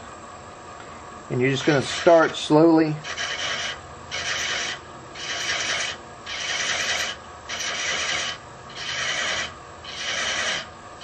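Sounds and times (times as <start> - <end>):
tool scraping spinning wood: 1.4 - 10.8
lathe humming: 1.6 - 10.7.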